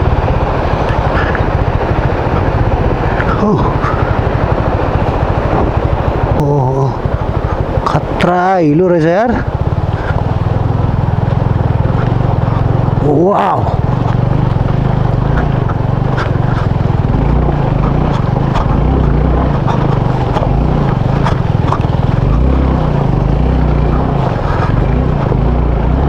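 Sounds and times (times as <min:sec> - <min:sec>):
motorcycle engine running: 0:00.0 - 0:26.0
scattered clicks and knocks: 0:00.0 - 0:26.0.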